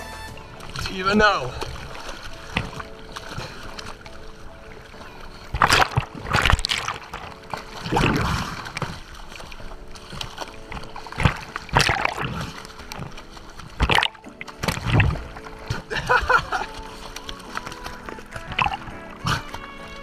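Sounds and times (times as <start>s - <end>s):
sea water sloshing: 0.3s - 20.0s
dog splashing in water: 0.4s - 20.0s.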